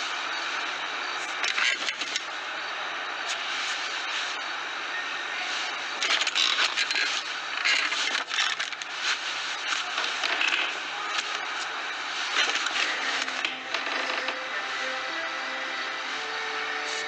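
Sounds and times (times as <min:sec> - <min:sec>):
steady hiss: 0:02.2 - 0:17.0.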